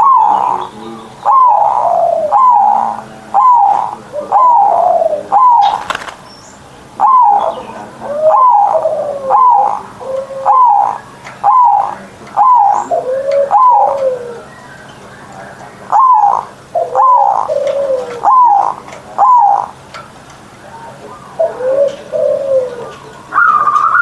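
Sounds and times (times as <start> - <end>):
dove cooing: 0.0 - 6.2, 6.9 - 14.5, 15.3 - 20.0, 20.6 - 24.0.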